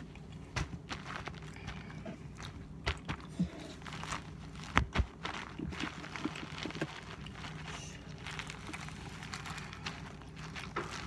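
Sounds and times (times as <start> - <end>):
steady low hum: 0.0 - 11.0
hands rustling and clicking: 0.1 - 11.0.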